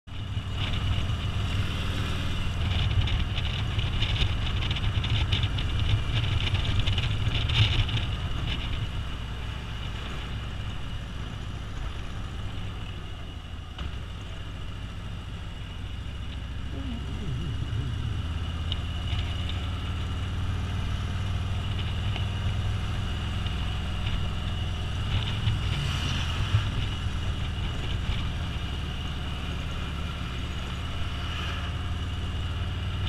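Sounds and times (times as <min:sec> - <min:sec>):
motorcycle engine rumble: 0:00.1 - 0:33.0.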